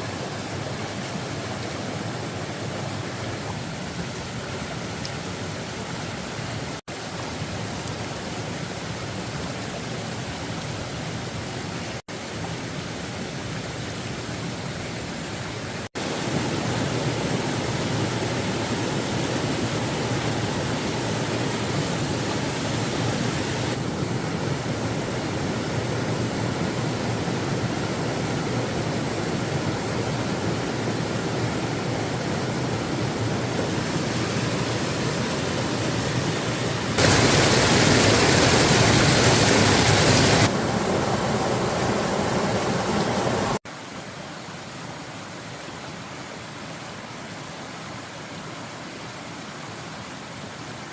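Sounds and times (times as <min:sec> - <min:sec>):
rain: 0:00.0 - 0:50.9
running water: 0:00.0 - 0:50.9.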